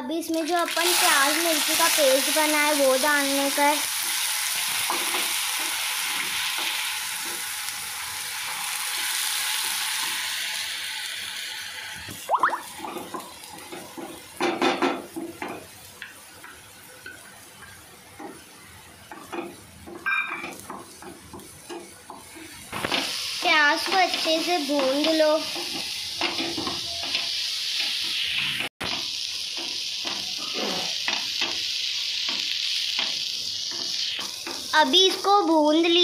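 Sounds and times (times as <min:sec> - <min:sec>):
paste sizzling in hot oil: 0:00.2 - 0:36.0.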